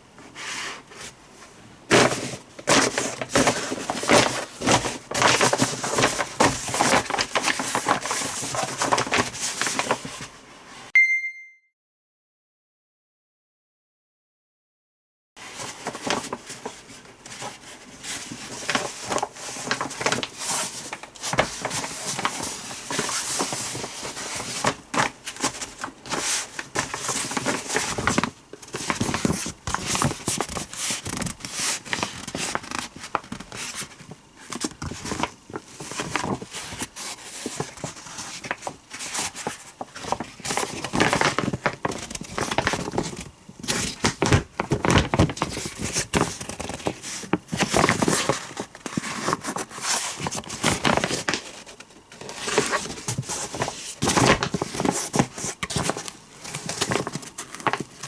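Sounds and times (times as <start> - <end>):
rustling and clicking handling noises: 0.1 - 10.4, 15.4 - 58.0.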